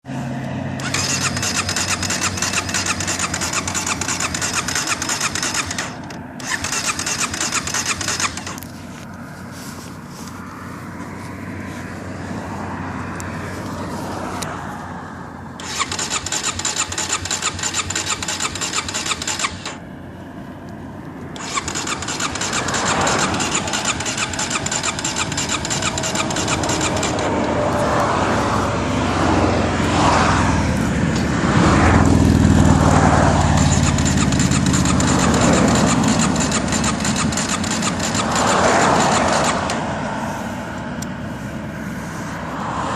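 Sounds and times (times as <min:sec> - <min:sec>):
starter motor cranking engine: 0:00.7 - 0:09.1, 0:15.6 - 0:20.0, 0:21.2 - 0:42.8.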